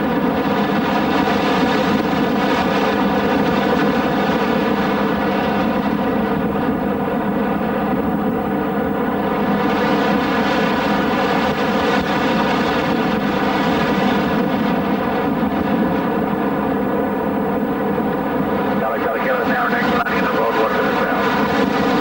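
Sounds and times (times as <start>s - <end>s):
airplane engine and propeller droning: 0.0s - 22.0s.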